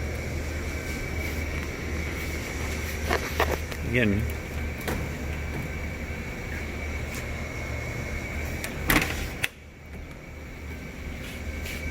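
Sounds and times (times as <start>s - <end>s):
machine hum with high whine: 0.0s - 11.9s.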